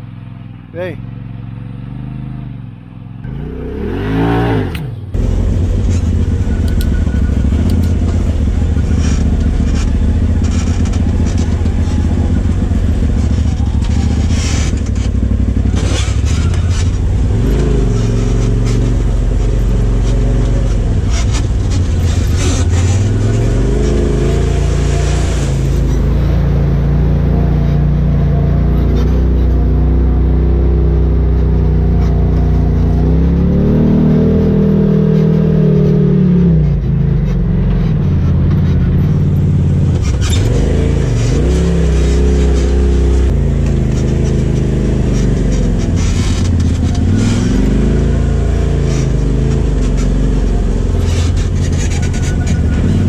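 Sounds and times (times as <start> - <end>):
engine running under load: 0.0 - 53.0.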